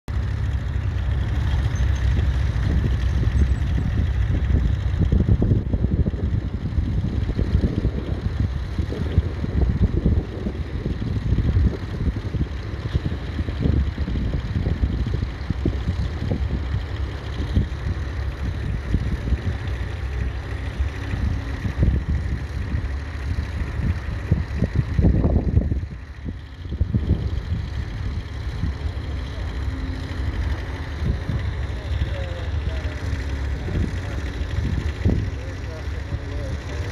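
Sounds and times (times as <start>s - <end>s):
diesel engine running: 0.0s - 36.9s
wind buffeting microphone: 0.1s - 36.9s.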